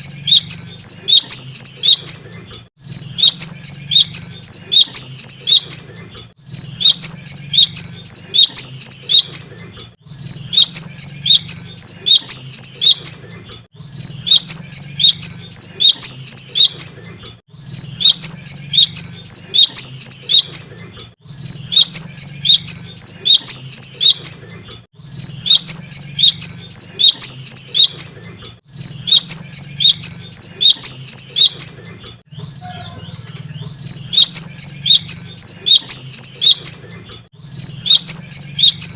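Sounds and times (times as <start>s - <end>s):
bird singing sharp chirps: 0.0s - 13.2s, 13.9s - 24.4s, 25.0s - 36.8s, 37.5s - 38.9s.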